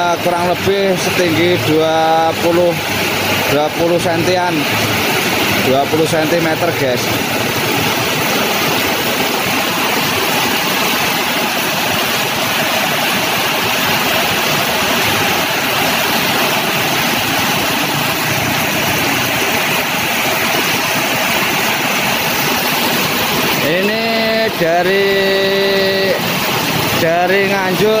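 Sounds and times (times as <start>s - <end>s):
heavy rain on flooded road: 0.0s - 28.0s
motorbikes passing through water: 0.0s - 28.0s.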